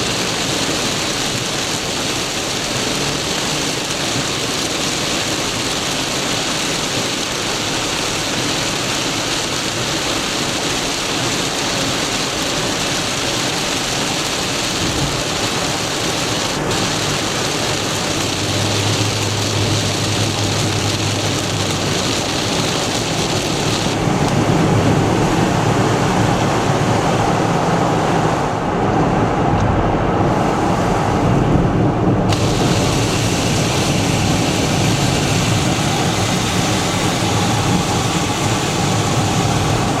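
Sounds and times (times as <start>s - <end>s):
car running and tyre noise: 0.0s - 40.0s
heavy rain on car: 0.0s - 40.0s.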